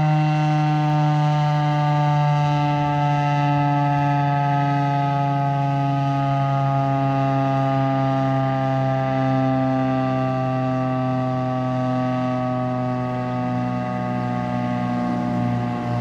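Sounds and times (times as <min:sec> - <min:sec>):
warning siren winding down: 0:00.0 - 0:16.0.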